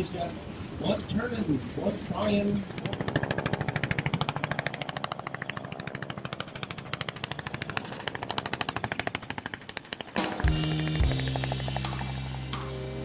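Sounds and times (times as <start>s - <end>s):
aircraft with chopping beat: 2.3s - 13.0s.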